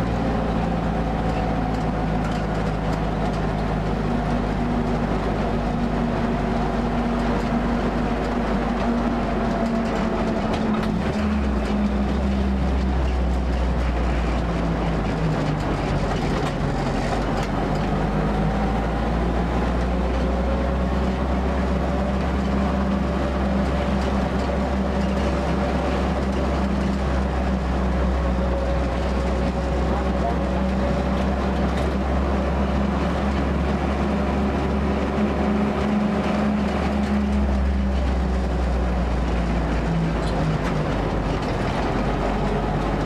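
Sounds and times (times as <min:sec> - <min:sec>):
jeep engine running: 0:00.0 - 0:43.0.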